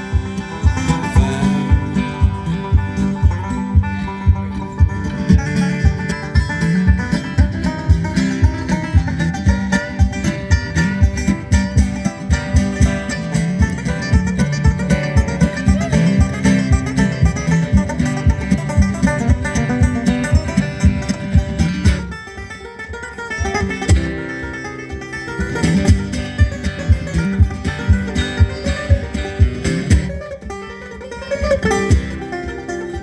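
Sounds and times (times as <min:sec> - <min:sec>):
plucked string melody: 0:00.0 - 0:33.0
strummed acoustic guitar: 0:00.0 - 0:33.0.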